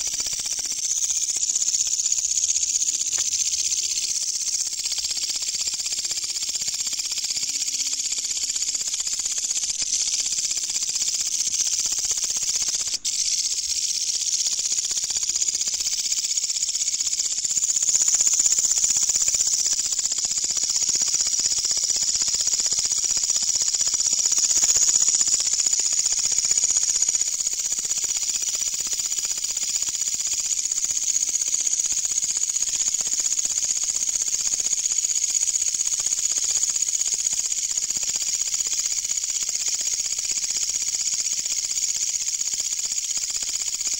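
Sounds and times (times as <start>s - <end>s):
katydid buzzing hiss: 0.0s - 43.9s.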